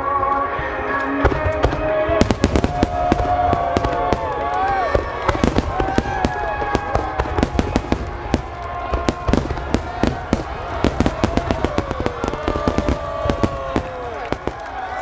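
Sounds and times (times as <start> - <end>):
fireworks bursts: 1.2 - 15.0.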